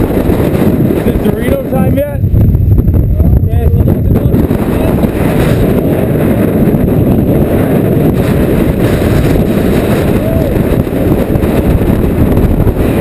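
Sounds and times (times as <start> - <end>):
wind blowing over microphone: 0.0 - 13.0.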